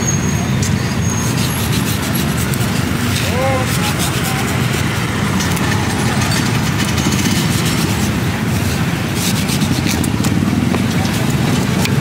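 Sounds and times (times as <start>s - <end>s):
street traffic rumble: 0.0s - 12.0s
knife scraping mango: 0.4s - 12.0s.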